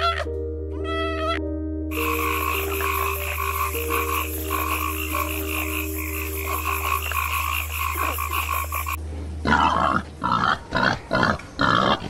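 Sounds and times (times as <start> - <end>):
frogs croaking: 1.9 - 12.0.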